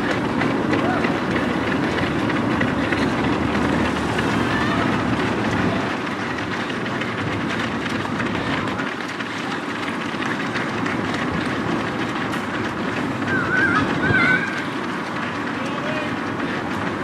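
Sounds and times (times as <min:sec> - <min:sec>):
running footsteps on tarmac: 0:00.0 - 0:17.0.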